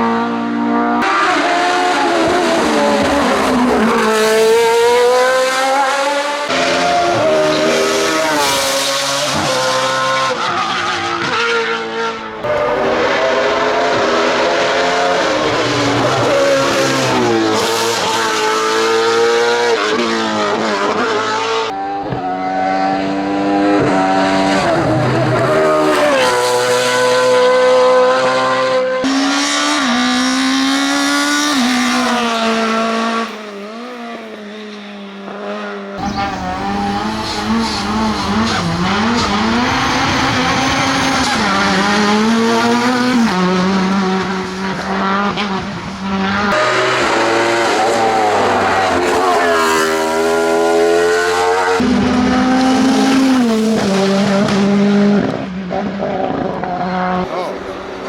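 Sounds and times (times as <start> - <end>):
racing car engines accelerating: 0.0 - 58.0.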